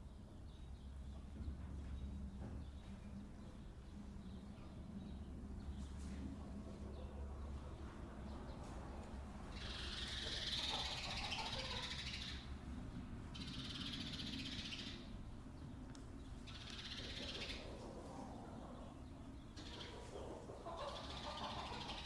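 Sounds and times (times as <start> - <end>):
steady low hum: 0.0 - 11.3, 11.9 - 22.0
chickens calling: 1.8 - 22.0.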